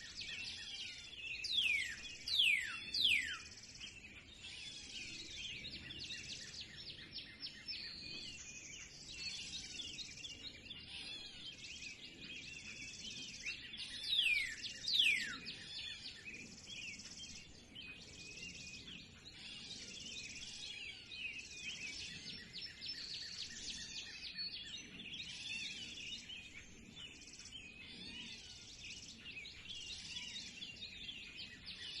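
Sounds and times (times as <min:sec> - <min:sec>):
birds singing in chorus: 0:00.0 - 0:32.0.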